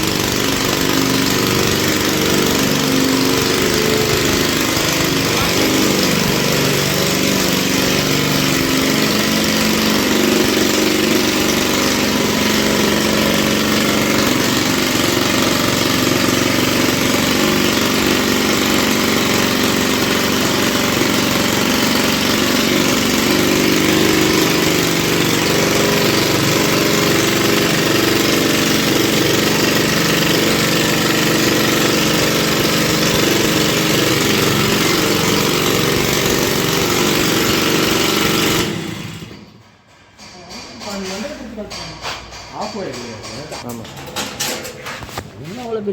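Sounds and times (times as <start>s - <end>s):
small two-stroke engine running: 0.0s - 39.7s.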